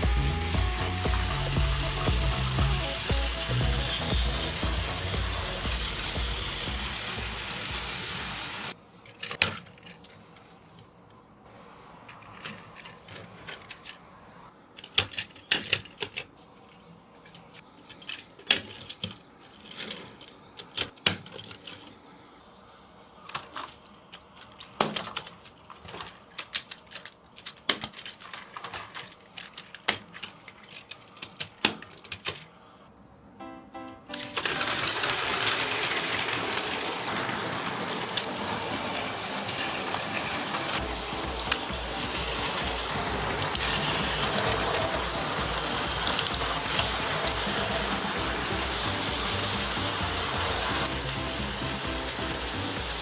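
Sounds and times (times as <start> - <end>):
plastic toy train clicking: 0.0 - 10.8, 12.1 - 14.1, 14.8 - 22.0, 23.3 - 32.6, 34.1 - 53.0.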